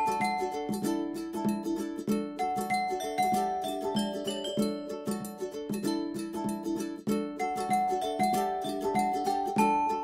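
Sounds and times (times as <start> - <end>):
plucked strings tune: 0.0 - 10.0.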